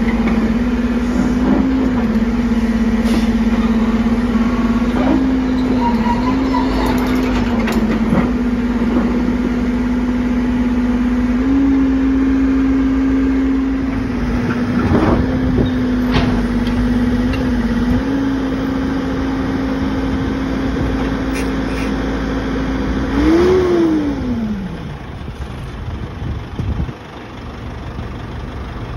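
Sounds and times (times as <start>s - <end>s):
diesel engine under load: 0.0s - 28.9s.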